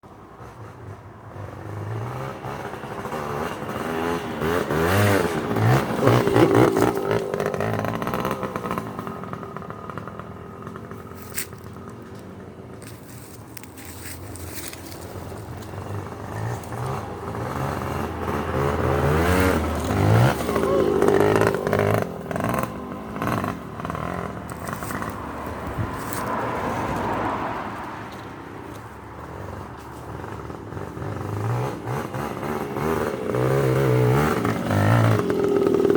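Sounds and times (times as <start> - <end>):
dirt bike engine revving past: 0.4 - 12.8, 13.8 - 35.9.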